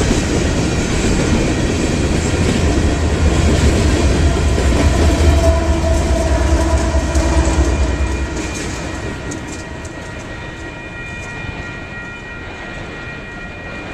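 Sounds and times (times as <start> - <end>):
train wheels clicking: 0.0 - 11.9
freight train rumbling past: 0.0 - 13.9
high-pitched whine: 0.7 - 13.9.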